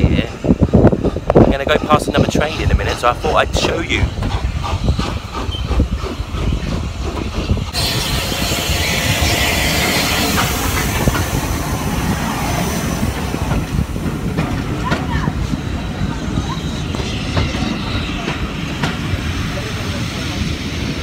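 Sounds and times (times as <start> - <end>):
low rumble of trains: 0.0 - 21.0
wind buffeting microphone: 0.0 - 21.0
steam locomotive hiss: 0.2 - 21.0.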